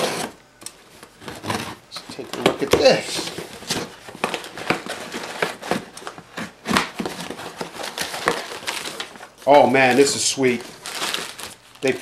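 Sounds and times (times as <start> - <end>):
packing tape crackling and clicking: 0.0 - 12.0.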